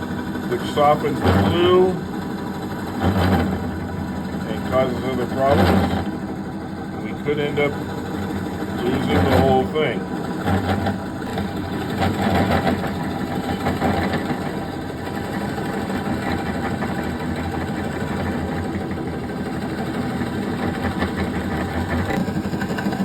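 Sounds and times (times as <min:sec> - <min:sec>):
lathe motor hum: 0:00.0 - 0:23.0.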